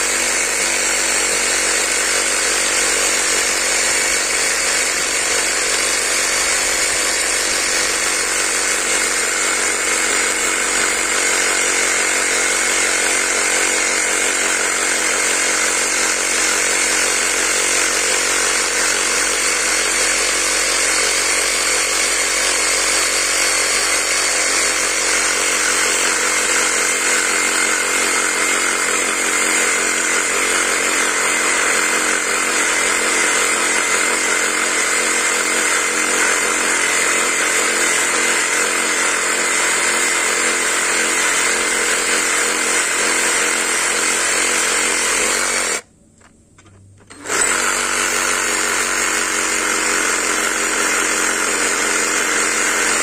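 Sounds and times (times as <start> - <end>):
cordless electric saw running: 0.0 - 45.9, 46.6 - 53.0.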